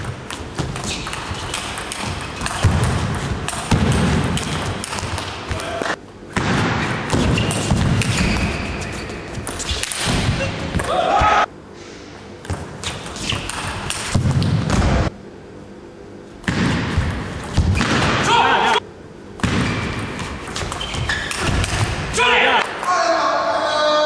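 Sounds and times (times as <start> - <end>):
noisy hall background: 0.0 - 24.0.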